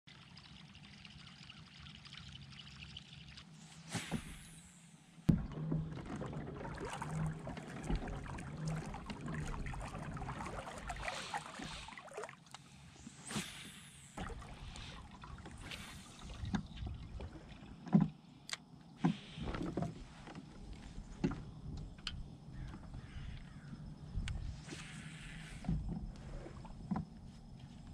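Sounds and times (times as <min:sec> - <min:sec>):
water lapping against plastic hull: 0:05.3 - 0:27.9.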